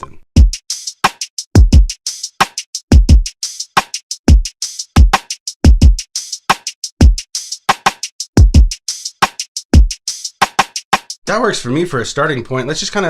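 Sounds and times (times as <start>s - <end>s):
hip hop drum beat: 0.4s - 11.2s.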